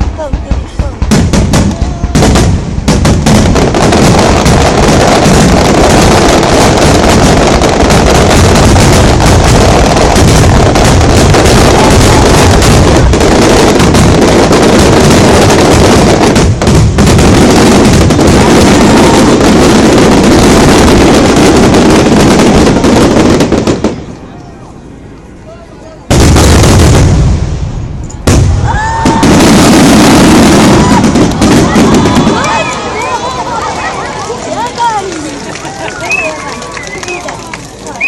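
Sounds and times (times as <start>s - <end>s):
fireworks booming and crackling: 0.0s - 25.2s, 26.0s - 38.0s.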